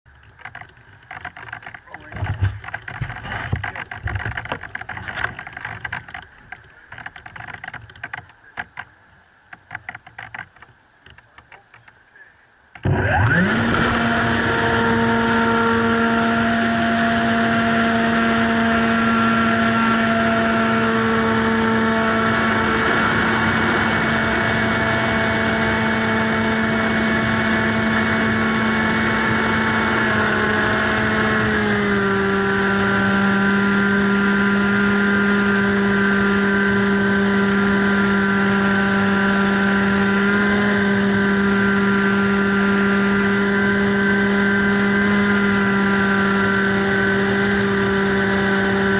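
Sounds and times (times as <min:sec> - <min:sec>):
model plane motor humming: 0:00.1 - 0:08.9, 0:09.5 - 0:11.9, 0:12.7 - 0:48.9.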